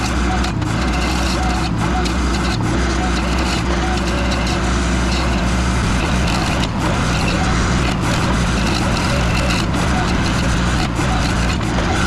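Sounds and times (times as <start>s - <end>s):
skid steer with stump grinder: 0.0s - 12.0s.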